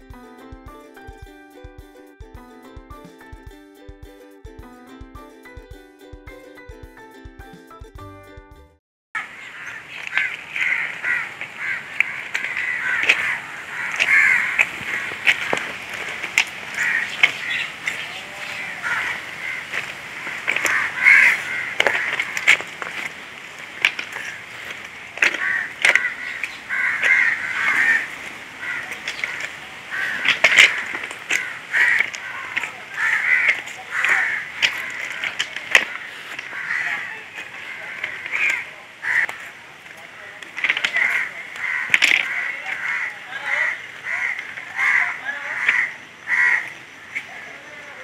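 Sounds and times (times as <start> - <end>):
crows cawing: 9.2 - 48.0.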